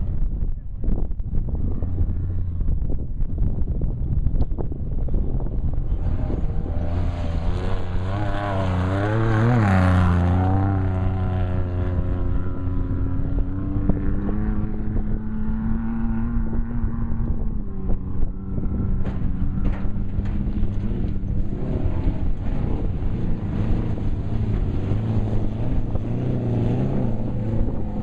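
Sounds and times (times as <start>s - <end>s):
race vehicle engine passing: 5.1s - 28.0s.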